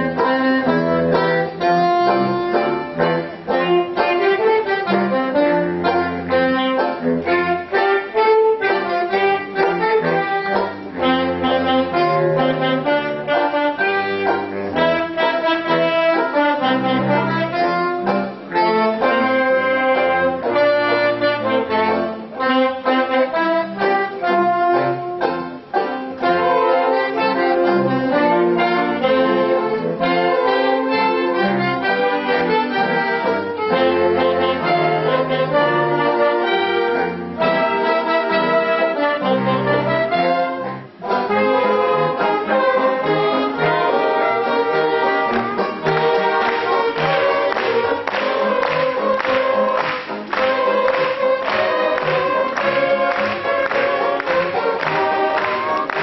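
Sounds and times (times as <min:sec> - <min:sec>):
saxophone ensemble playing: 0:00.0 - 0:56.0.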